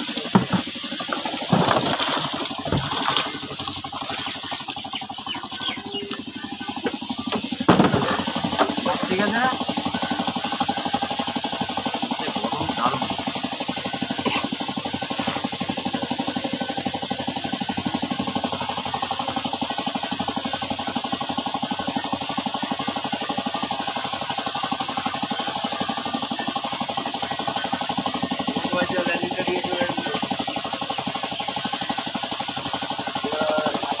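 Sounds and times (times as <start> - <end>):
engine running with knocking beat: 0.0 - 34.0.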